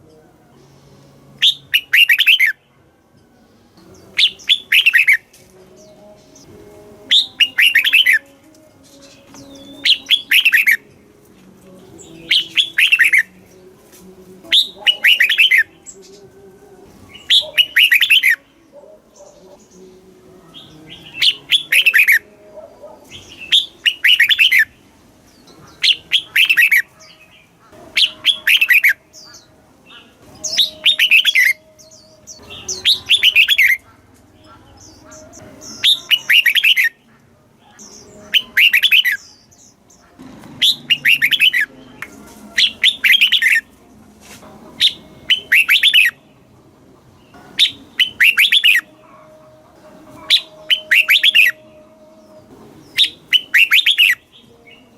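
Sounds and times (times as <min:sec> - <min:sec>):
bulbul singing: 0:00.0 - 0:54.9.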